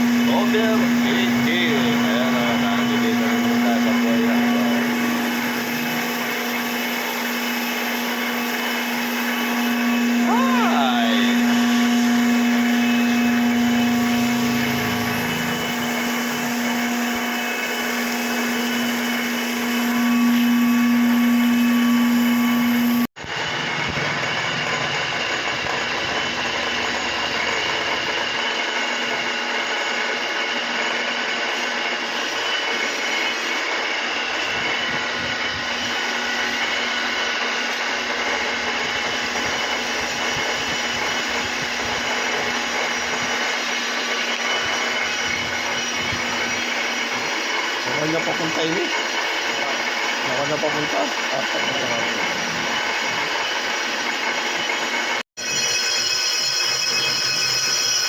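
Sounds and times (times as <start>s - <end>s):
machinery motor hum: 0.0s - 28.4s, 34.2s - 55.2s
machining noise with high whine: 0.0s - 58.0s.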